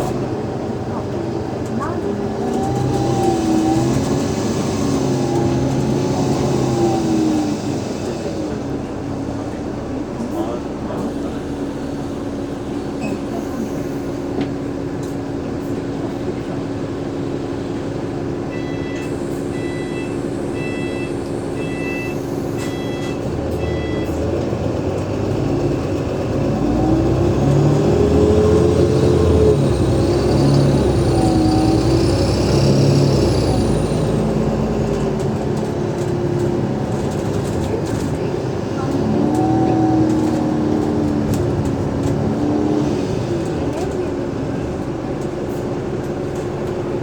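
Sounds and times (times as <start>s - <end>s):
bus diesel engine: 0.0s - 47.0s.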